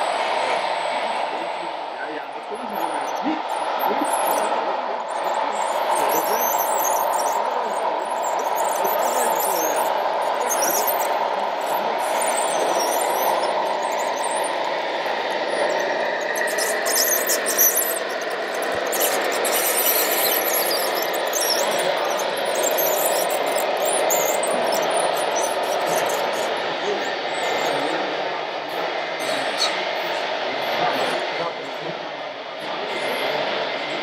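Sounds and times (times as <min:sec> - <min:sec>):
toy bulldozer tracks squealing: 0:02.4 - 0:28.0, 0:28.7 - 0:31.4, 0:32.8 - 0:34.0.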